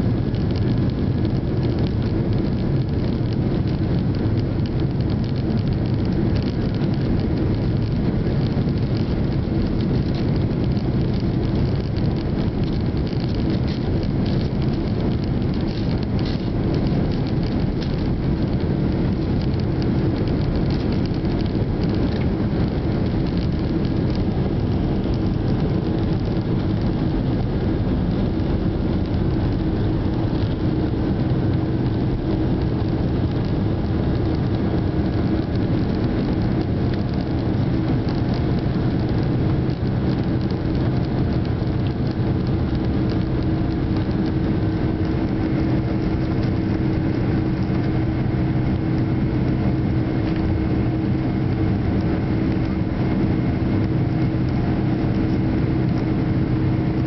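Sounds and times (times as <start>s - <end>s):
jet engine noise in cabin: 0.0s - 57.0s.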